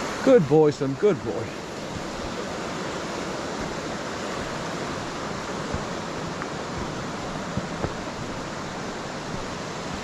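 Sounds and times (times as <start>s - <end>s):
river rushing over rocks: 0.0s - 10.0s.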